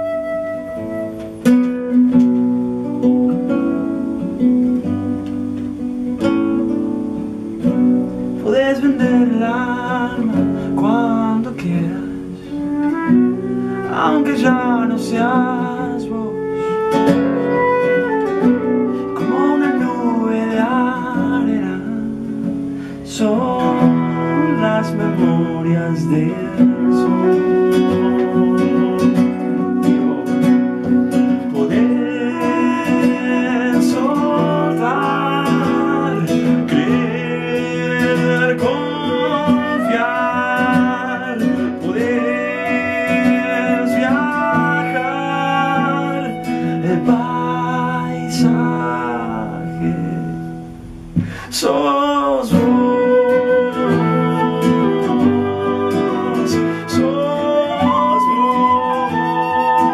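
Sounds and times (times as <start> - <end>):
flute playing melody: 0.0 - 51.1, 52.5 - 59.9
acoustic guitar strummed: 0.0 - 59.9
man singing: 7.1 - 59.9.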